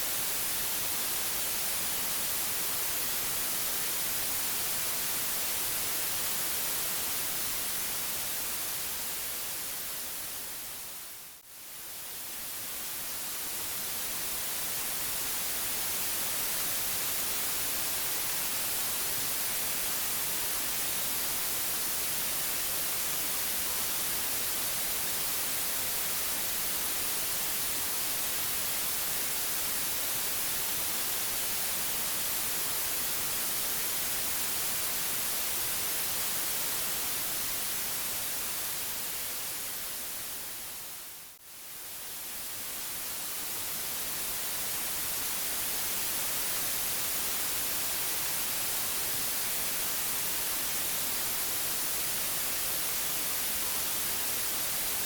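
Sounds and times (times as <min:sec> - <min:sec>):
synthetic white noise hiss: 0:00.0 - 0:55.0.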